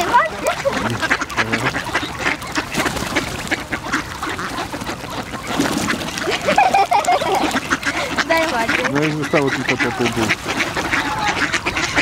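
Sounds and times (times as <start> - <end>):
ducks quacking: 0.0 - 12.0
water splashing: 0.0 - 12.0.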